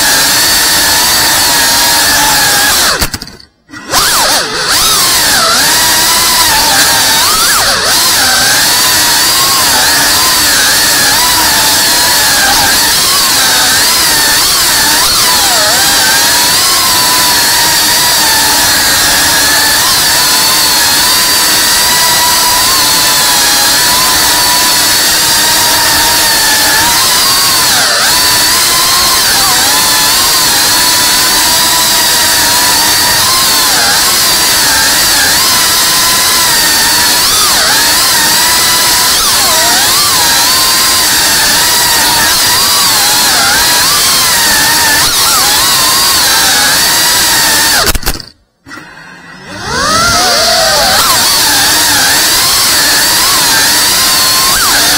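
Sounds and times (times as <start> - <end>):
quadcopter motors whining: 0.0 - 54.9.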